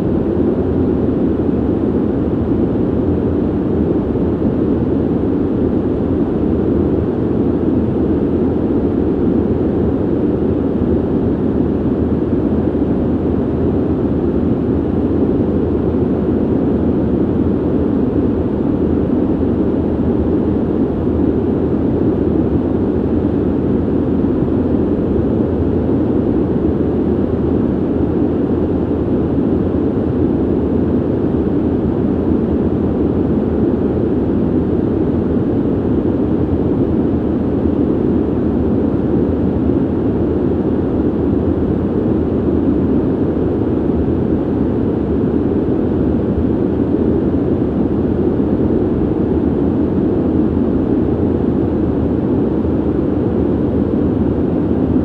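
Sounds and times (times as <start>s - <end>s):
ventilation rumble: 0.0s - 55.0s.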